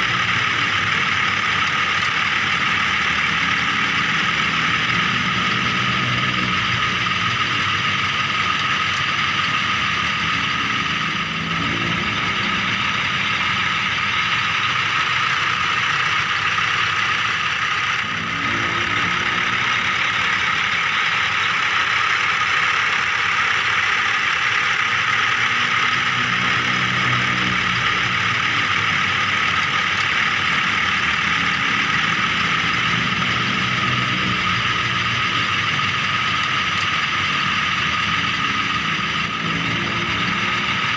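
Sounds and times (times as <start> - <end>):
toy vehicle motors whining: 0.0 - 40.9.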